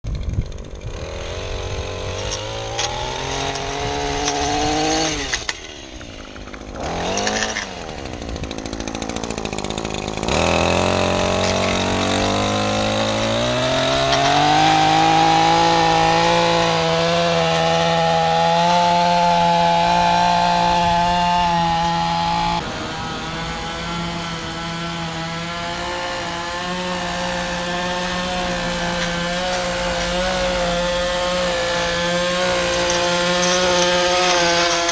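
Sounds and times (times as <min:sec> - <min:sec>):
small petrol engine revving: 0:00.1 - 0:34.9.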